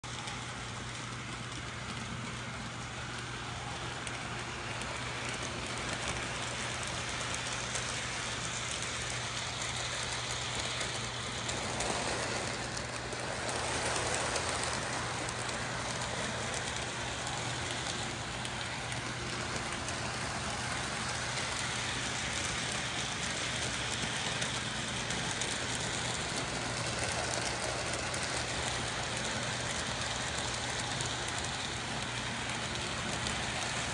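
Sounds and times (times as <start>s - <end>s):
model train wheels rattling: 0.1s - 33.9s.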